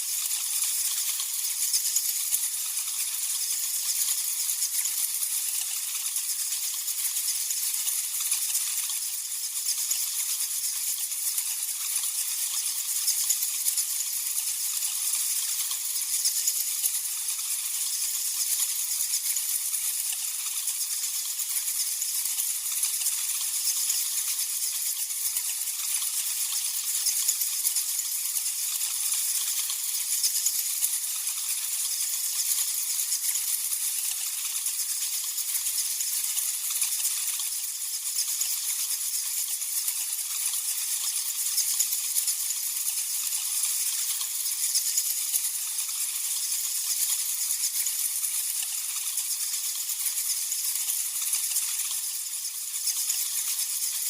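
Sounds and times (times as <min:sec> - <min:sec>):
bats squeaking and clicking: 0:00.0 - 0:54.0.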